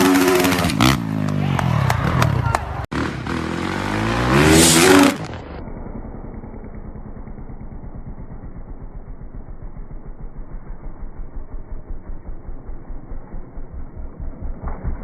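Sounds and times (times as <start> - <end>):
dirt bike engine revving: 0.0 - 1.4, 2.9 - 15.0.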